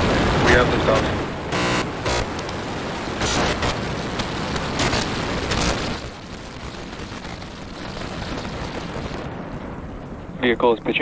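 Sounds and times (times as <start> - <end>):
rocket engine roar with crackles: 0.0 - 11.0.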